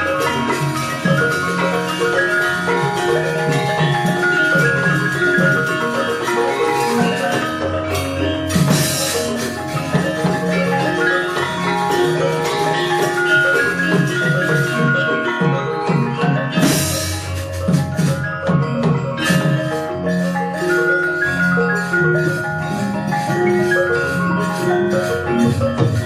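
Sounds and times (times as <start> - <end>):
gamelan ensemble playing: 0.0 - 26.0.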